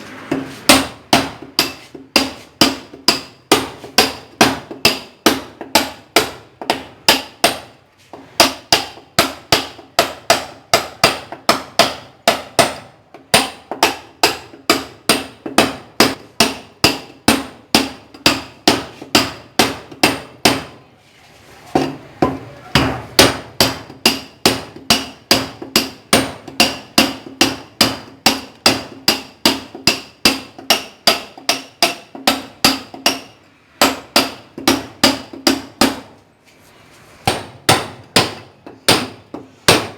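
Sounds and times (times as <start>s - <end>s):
sledgehammer striking steel chisel: 0.3s - 20.8s, 21.8s - 36.2s, 37.2s - 39.9s.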